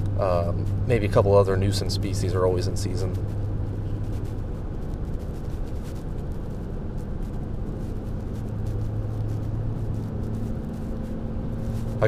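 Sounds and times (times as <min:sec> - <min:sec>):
engine noise: 0:00.0 - 0:12.0
road noise: 0:00.0 - 0:12.0.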